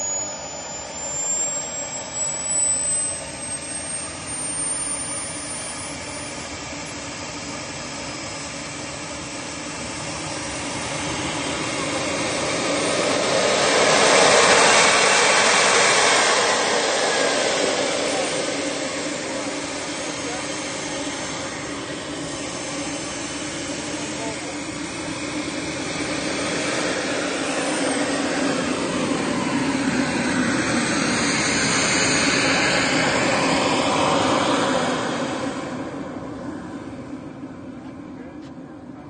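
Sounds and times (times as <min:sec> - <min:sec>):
model jet turbine whining: 0:00.0 - 0:39.0.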